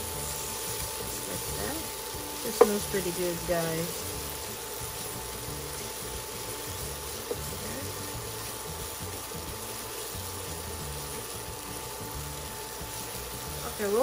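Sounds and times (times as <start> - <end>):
onion and garlic sizzling in oil: 0.0 - 14.0
tongs stirring in a pan: 0.0 - 14.0.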